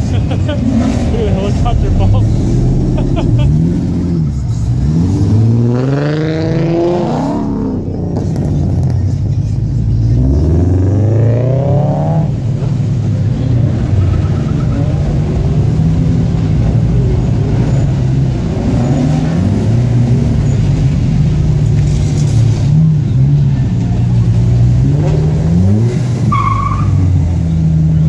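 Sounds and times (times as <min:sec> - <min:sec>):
car engines revving: 0:00.0 - 0:28.0
low rumble of engines: 0:00.0 - 0:28.0.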